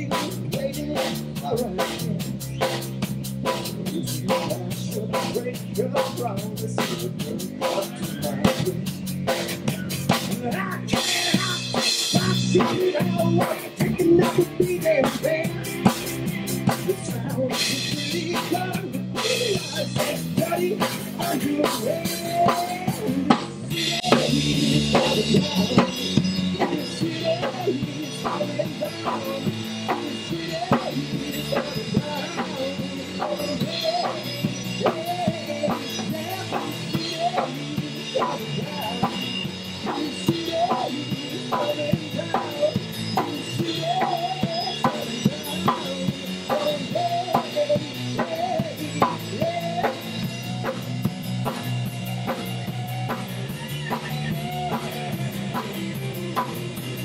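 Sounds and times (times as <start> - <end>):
drum kit steady beat: 0.0 - 57.0
electric guitars and bass: 0.0 - 57.0.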